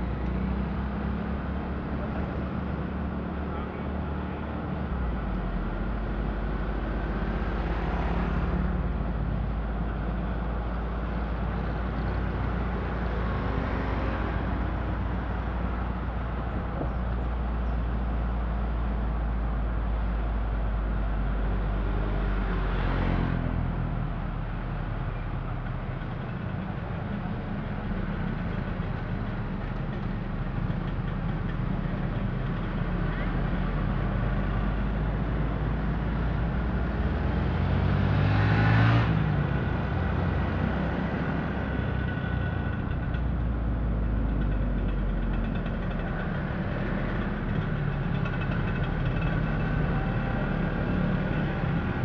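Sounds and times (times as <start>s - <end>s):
car engine and road noise: 0.0s - 52.0s
vehicles passing by: 0.0s - 52.0s.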